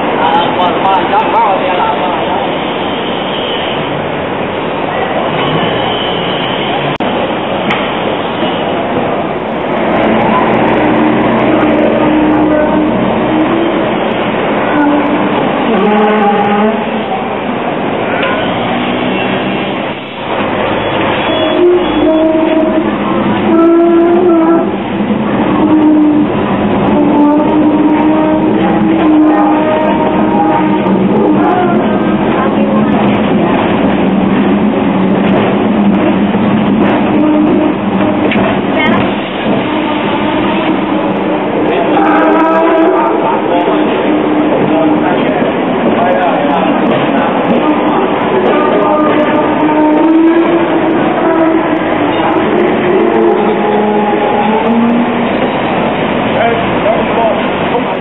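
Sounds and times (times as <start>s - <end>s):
tram running past: 0.0s - 58.0s.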